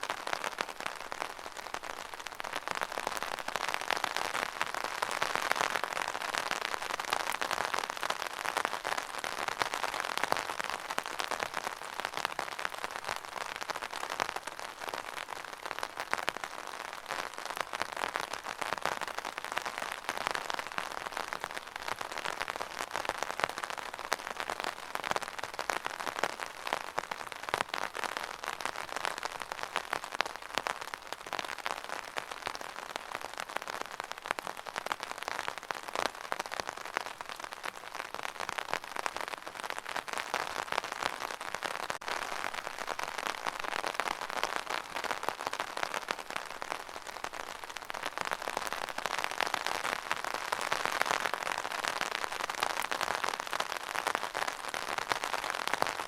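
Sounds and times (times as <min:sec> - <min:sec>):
rain on a hard surface: 0:00.0 - 0:56.0.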